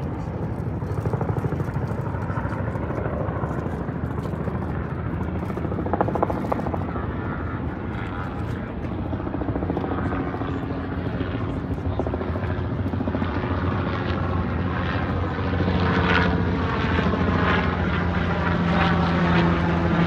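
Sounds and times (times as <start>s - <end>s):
helicopter rotor beating: 0.0s - 20.0s.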